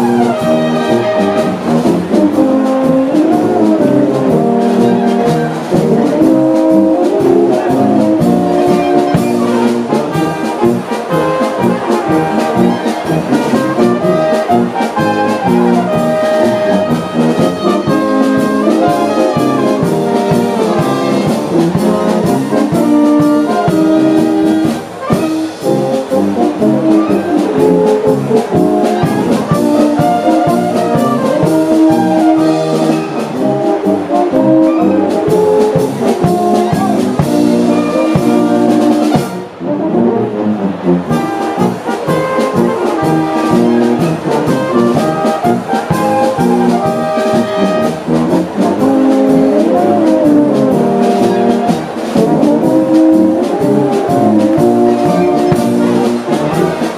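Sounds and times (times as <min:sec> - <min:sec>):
wind band playing brass and clarinets: 0:00.0 - 0:56.9.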